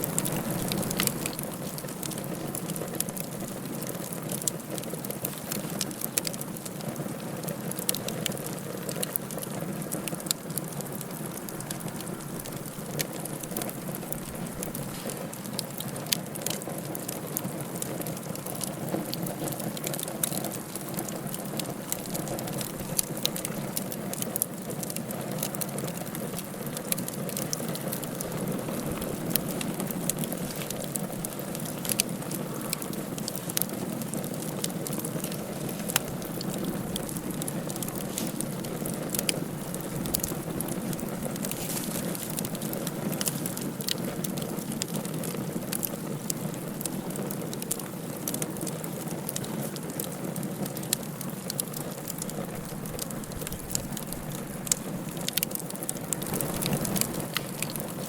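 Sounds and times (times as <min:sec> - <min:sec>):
wood fire burning: 0:00.0 - 0:58.0.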